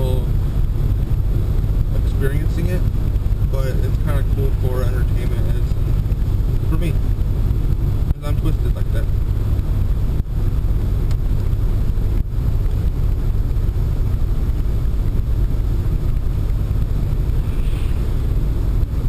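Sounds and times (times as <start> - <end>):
road and engine rumble in car: 0.0 - 19.0.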